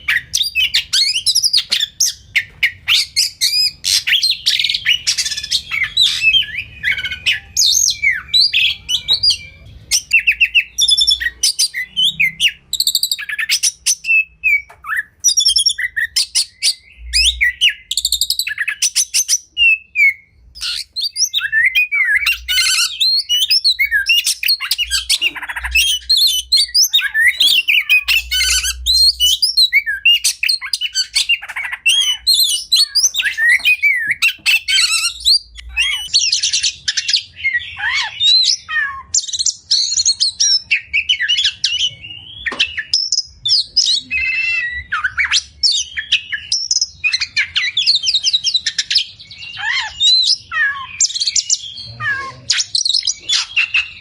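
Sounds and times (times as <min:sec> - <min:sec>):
songbird singing with trills: 0:00.0 - 0:54.0.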